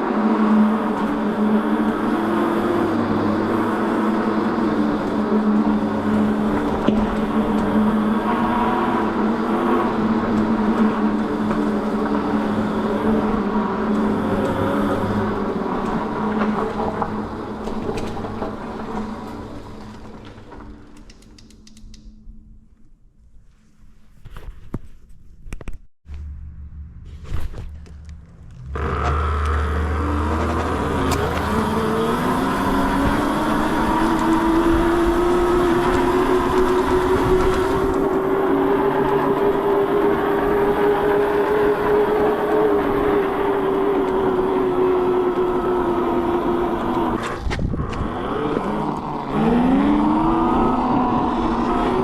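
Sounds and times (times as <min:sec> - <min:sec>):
mini bike motor running: 0:00.0 - 0:20.0, 0:28.6 - 0:52.0
rising whine: 0:00.0 - 0:20.6, 0:26.1 - 0:52.0
vehicle rushing rumble: 0:00.0 - 0:20.8, 0:26.1 - 0:52.0.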